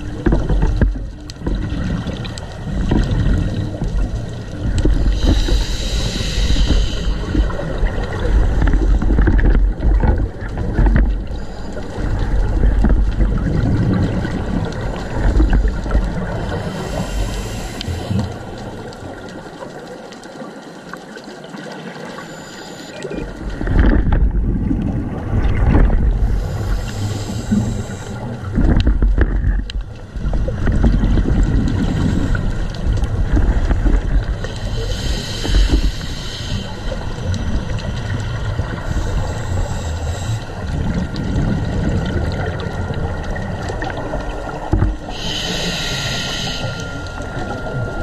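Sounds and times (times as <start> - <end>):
muffled underwater water rushing: 0.0 - 48.0.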